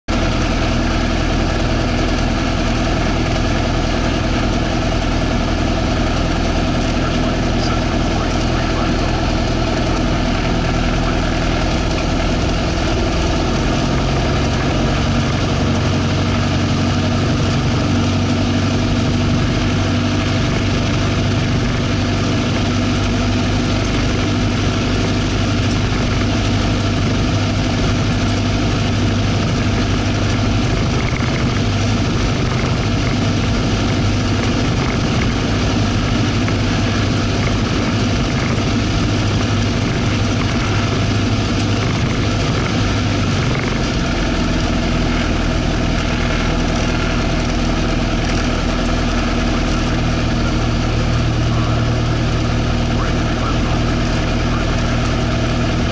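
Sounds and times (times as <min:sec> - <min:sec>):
light aircraft engine droning: 0:00.1 - 0:55.9.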